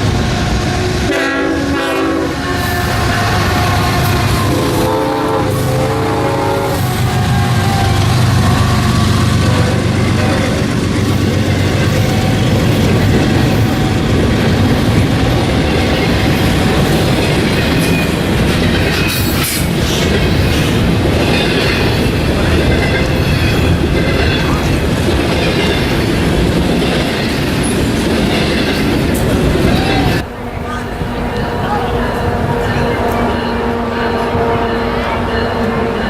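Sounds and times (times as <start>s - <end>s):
train rumbling past: 0.0s - 36.0s.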